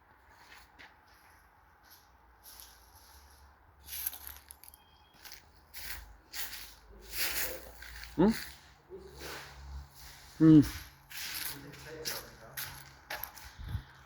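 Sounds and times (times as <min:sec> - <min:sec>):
footsteps crunching: 0:00.0 - 0:14.0.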